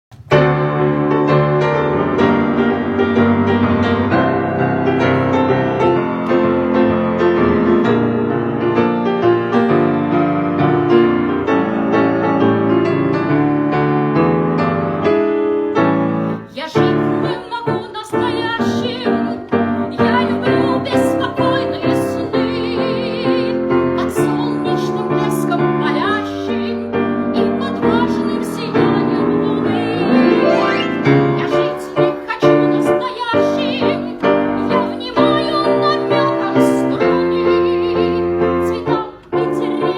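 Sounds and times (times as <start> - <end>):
piano music: 0.1 - 39.9.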